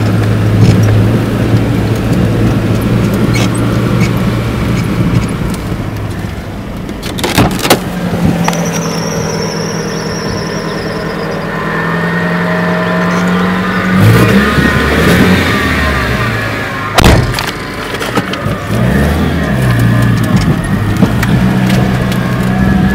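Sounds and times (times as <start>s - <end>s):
car engine driving: 0.0s - 22.9s.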